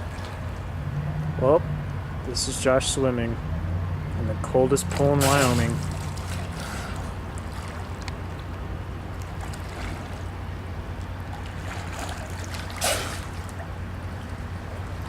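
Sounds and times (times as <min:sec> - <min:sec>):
pool water splashing: 0:00.0 - 0:15.0
steady low rumble: 0:00.0 - 0:15.0.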